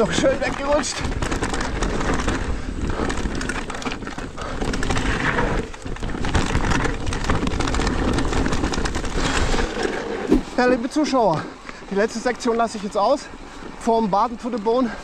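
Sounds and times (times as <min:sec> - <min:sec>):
bike knocks and rattles: 0:00.0 - 0:14.8
tyre and ground noise: 0:00.0 - 0:15.0.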